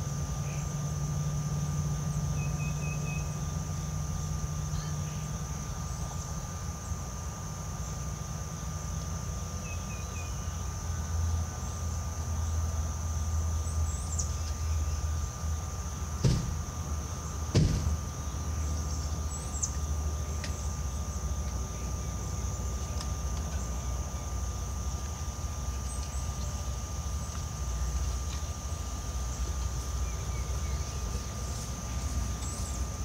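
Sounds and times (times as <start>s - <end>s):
high whine: 0.0s - 33.0s
low hum: 0.0s - 33.0s.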